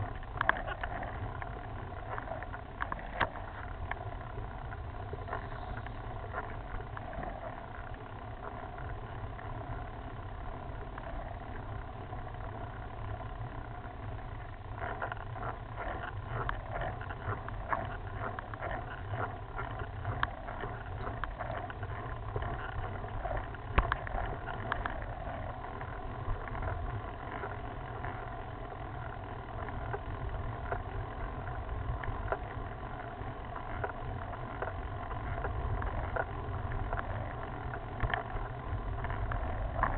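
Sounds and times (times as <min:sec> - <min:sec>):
bike clicks and rattles: 0:00.0 - 0:39.9
bike tyre noise: 0:00.0 - 0:39.9
wind rumble on microphone: 0:00.0 - 0:39.9.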